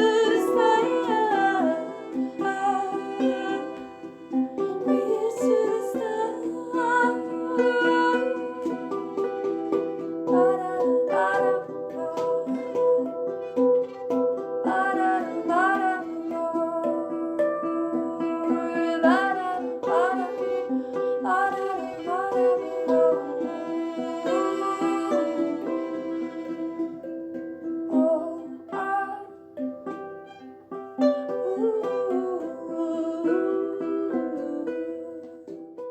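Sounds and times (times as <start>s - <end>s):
person singing: 0.0s - 30.0s, 31.0s - 35.9s
plucked string instrument: 0.0s - 35.9s.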